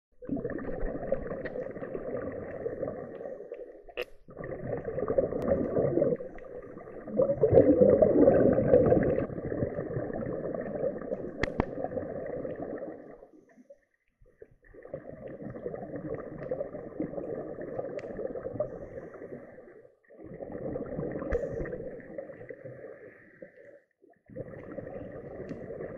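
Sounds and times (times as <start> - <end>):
exhaled breath bubbling: 0.2 - 13.8, 14.8 - 23.6, 24.3 - 25.9.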